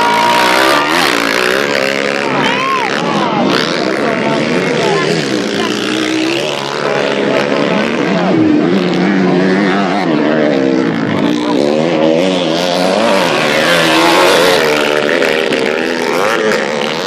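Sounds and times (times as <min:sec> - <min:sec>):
motocross engines revving: 0:00.0 - 0:17.0.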